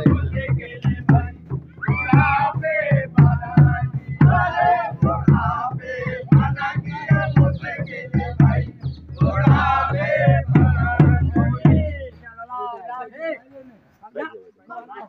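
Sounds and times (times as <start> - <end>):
steady drum beat: 0.0 - 12.5
men singing and chanting: 0.0 - 13.8.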